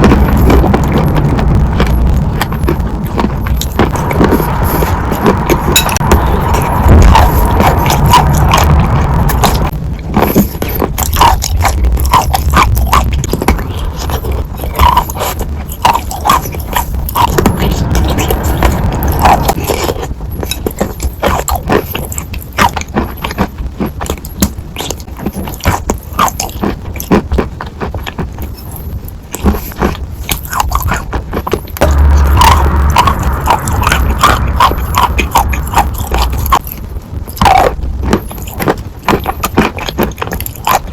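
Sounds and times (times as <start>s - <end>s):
chalk crunching while chewed: 0.0s - 40.9s.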